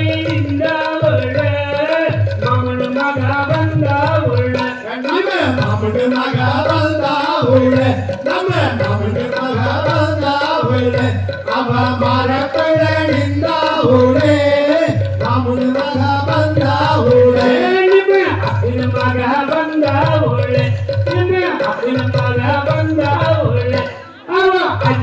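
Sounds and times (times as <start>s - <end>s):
person singing: 0.0s - 25.0s
steady drum rhythm: 0.0s - 25.0s.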